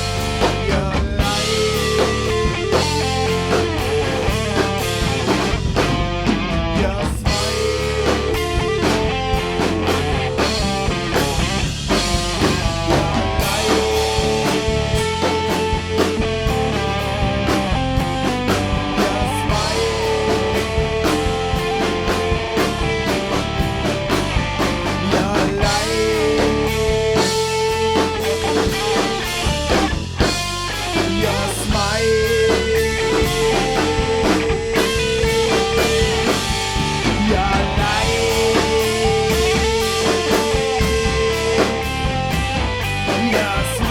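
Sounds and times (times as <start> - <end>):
instrumental rock music: 0.0 - 43.9.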